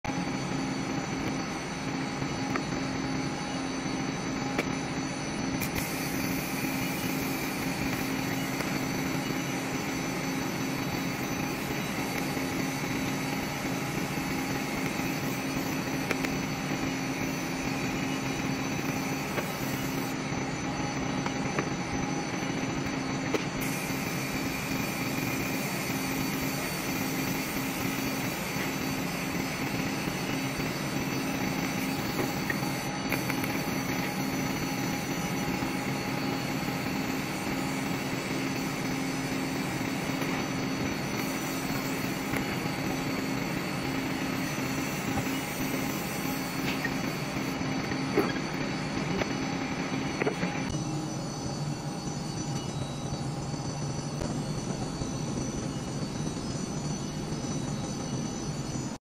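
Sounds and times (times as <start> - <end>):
welding machine drone: 0.0 - 59.0
welding arc hiss: 0.1 - 52.0.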